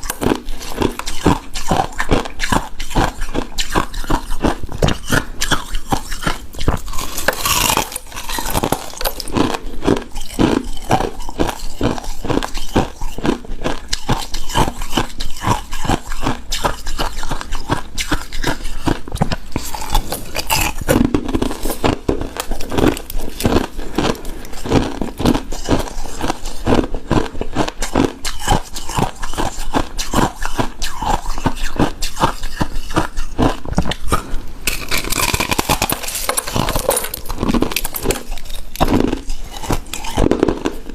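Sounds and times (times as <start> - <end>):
crunching shaved ice: 0.0 - 40.9.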